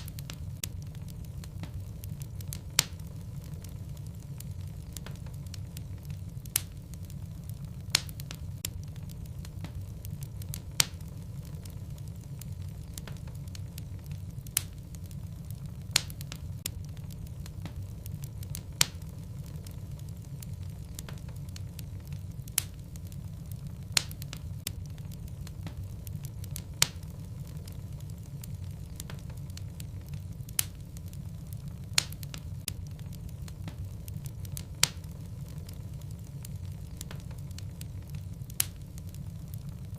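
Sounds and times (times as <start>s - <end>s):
flames rumbling: 0.0s - 39.9s
wood crackling and popping: 0.0s - 39.9s.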